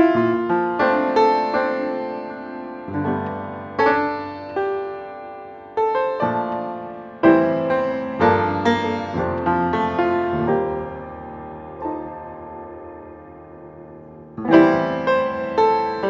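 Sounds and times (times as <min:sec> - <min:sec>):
jazz piano music: 0:00.0 - 0:16.0.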